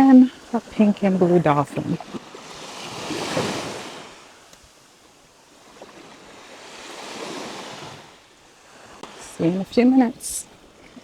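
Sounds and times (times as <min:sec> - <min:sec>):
waves washing on sandy beach: 0:00.1 - 0:11.0.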